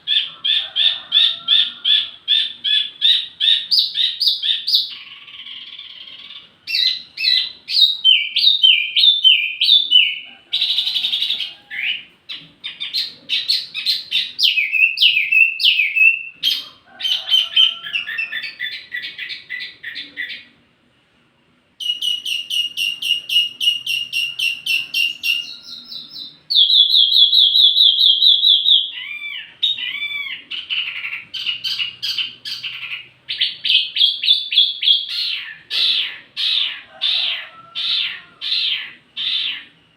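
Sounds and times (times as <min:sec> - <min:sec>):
songbird chirping and trilling: 0:00.0 - 0:20.6, 0:21.8 - 0:39.9.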